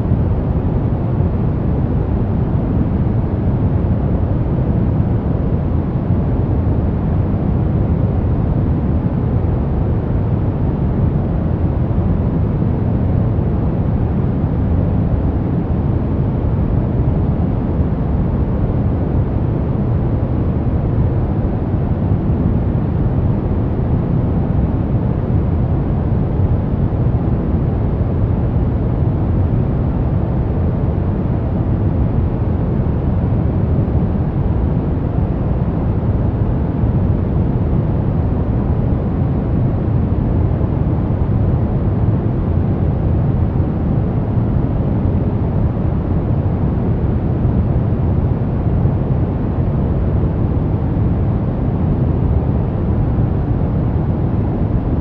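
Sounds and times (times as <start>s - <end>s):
deep white noise rush: 0.0s - 55.0s.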